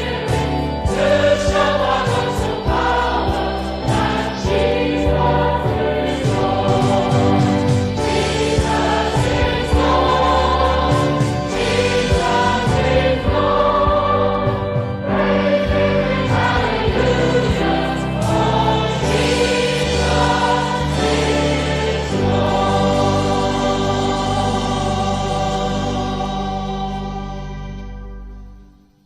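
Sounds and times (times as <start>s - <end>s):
choir singing a hymn: 0.0s - 27.9s
instrumental accompaniment: 0.0s - 29.0s.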